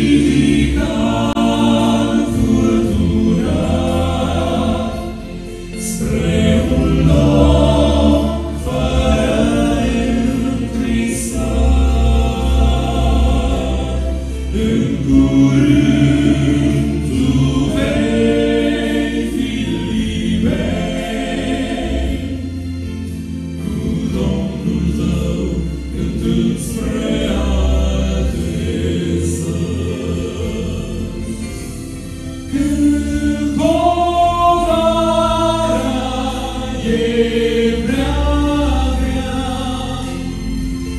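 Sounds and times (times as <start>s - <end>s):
deep bass line: 0.0s - 40.9s
male vocal quartet singing gospel: 0.0s - 40.9s.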